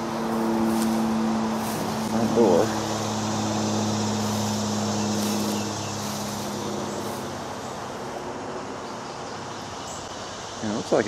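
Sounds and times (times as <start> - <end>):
distant road traffic: 0.0 - 11.0
engine drone: 0.0 - 11.0.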